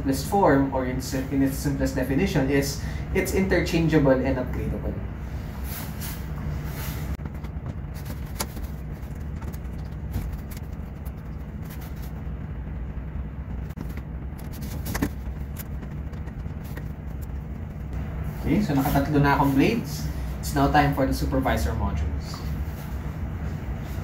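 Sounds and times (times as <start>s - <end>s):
air conditioning and fans humming: 0.0s - 24.0s.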